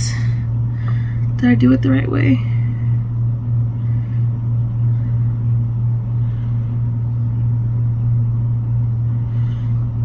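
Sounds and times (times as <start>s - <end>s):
low rumble: 0.0s - 10.0s
steady low hum: 0.0s - 10.0s.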